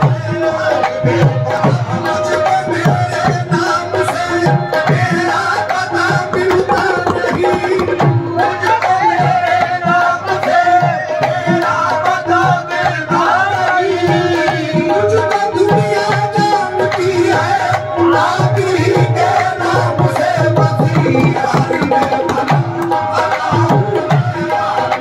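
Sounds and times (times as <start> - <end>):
tabla beating a steady rhythm: 0.0 - 25.0.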